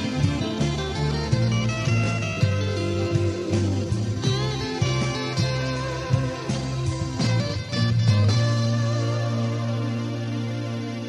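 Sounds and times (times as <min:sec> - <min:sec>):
guitars with bass and drums: 0:00.0 - 0:11.0.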